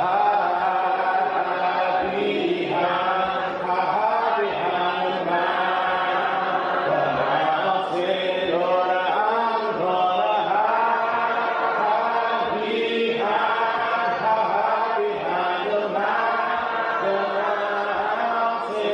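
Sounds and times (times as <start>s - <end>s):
group singing a hymn: 0.0s - 18.9s.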